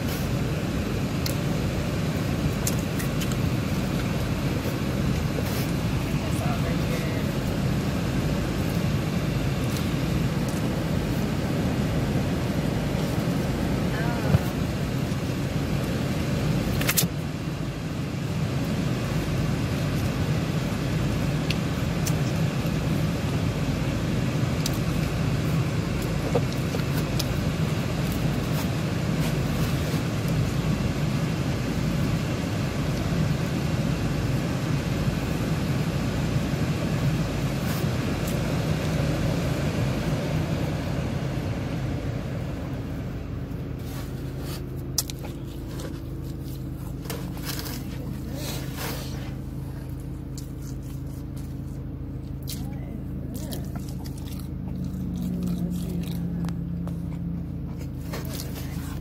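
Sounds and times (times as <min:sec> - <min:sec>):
car air conditioning blowing: 0:00.0 - 0:59.0.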